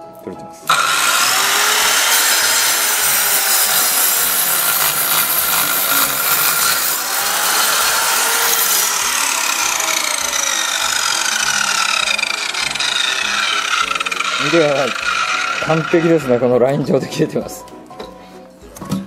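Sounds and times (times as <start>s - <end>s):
circular saw cutting wood: 0.7s - 16.9s.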